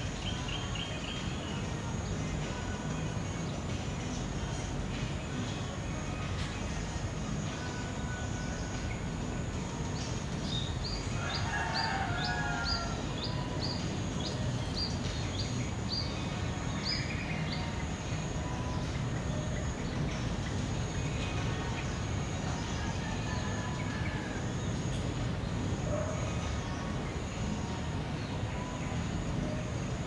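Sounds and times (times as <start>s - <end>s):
lower bird chirping: 0.0s - 30.0s
songbirds calling: 0.0s - 30.0s
steady low background noise: 0.0s - 30.0s.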